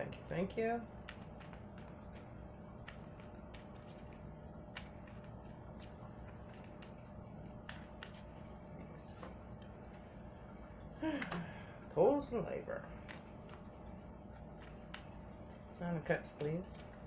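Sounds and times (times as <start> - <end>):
faint steady hum: 0.0 - 17.0
cards rustling and tapping: 0.1 - 10.2, 12.9 - 17.0.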